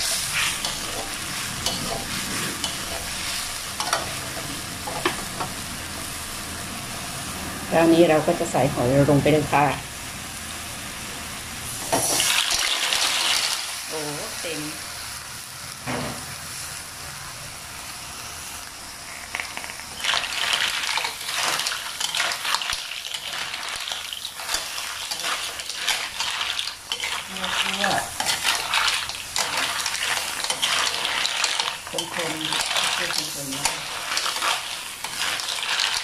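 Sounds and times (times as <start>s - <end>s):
mussels sizzling in a wok: 0.0s - 36.0s.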